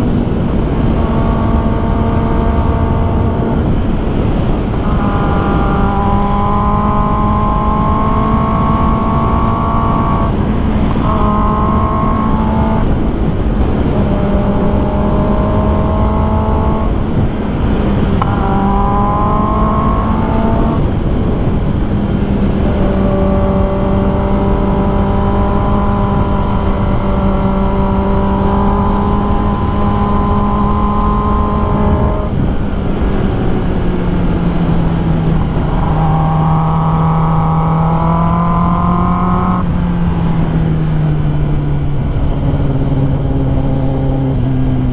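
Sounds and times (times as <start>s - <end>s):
heavy wind noise: 0.0s - 44.9s
motorcycle engine at high revs: 0.0s - 44.9s.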